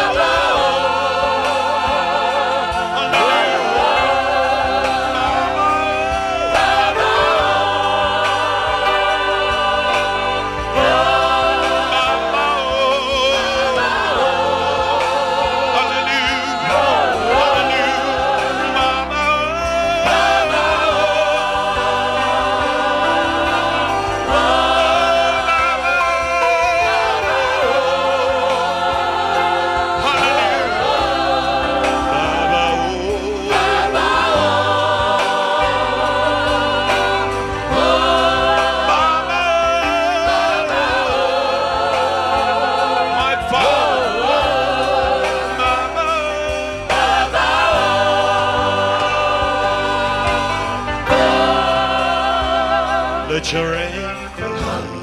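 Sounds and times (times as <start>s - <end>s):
choir singing: 0.0s - 55.0s
low musical accompaniment: 0.0s - 55.0s.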